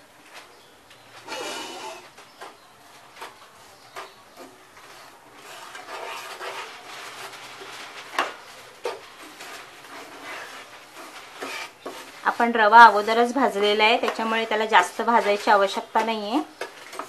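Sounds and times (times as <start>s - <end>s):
spatula scraping pot: 1.2s - 17.0s.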